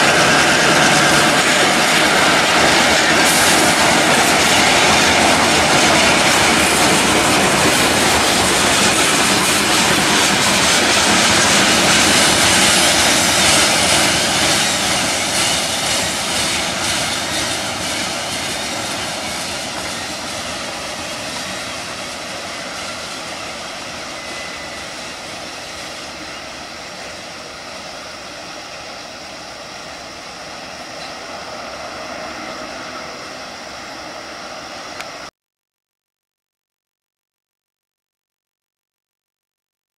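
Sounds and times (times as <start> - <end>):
freight train wheels rumbling: 0.0 - 35.3.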